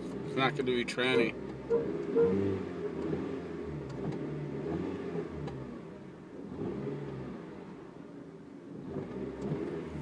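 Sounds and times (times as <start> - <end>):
car engine wavering low hum: 0.0 - 10.0.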